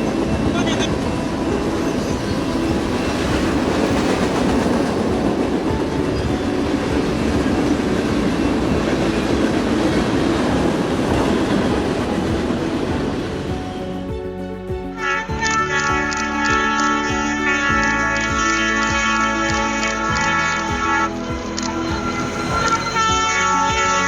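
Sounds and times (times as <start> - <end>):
train rumbling on rails: 0.0 - 15.1, 16.9 - 24.0.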